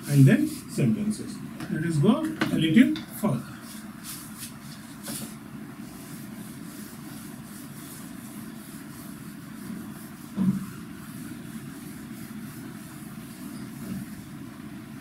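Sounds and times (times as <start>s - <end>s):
eraser wiping whiteboard: 0.0s - 1.2s, 3.6s - 15.0s
steady low hum: 0.0s - 15.0s.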